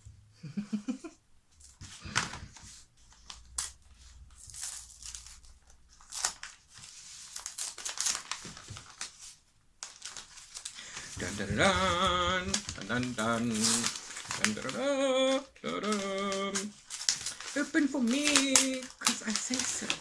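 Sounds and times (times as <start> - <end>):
wrapping paper crinkling and tearing: 1.6 - 20.0.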